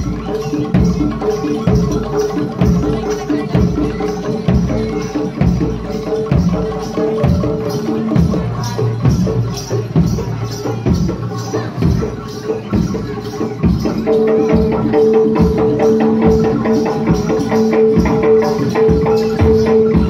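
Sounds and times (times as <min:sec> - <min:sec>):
drums in driving rhythm: 0:00.0 - 0:20.0.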